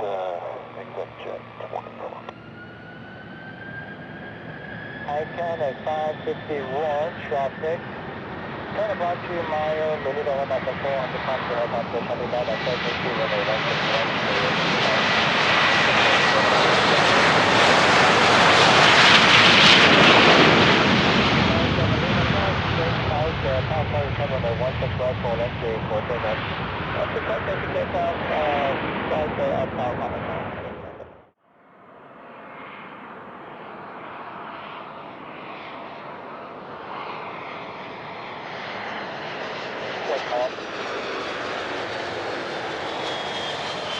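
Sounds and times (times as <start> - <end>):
jet engines rushing: 0.0 - 31.2, 32.3 - 43.9.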